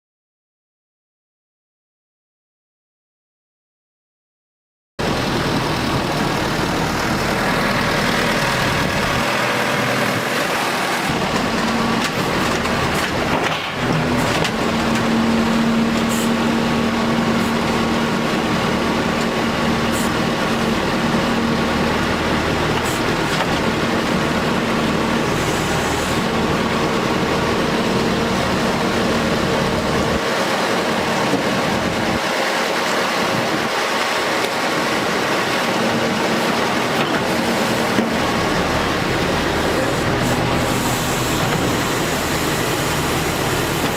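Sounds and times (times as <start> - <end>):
excavator diesel engine running: 5.0 - 43.9.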